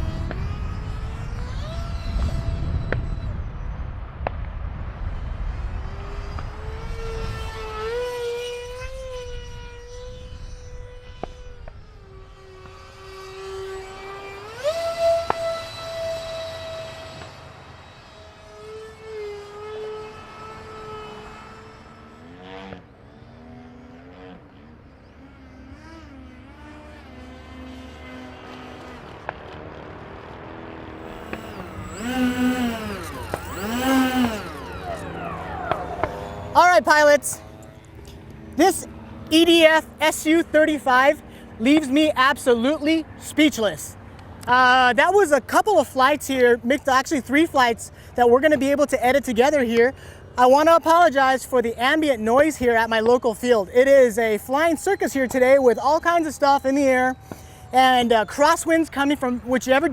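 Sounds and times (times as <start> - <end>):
electric ducted fans whining: 0.0 - 23.2, 23.8 - 59.9
steady background hum: 0.0 - 50.4.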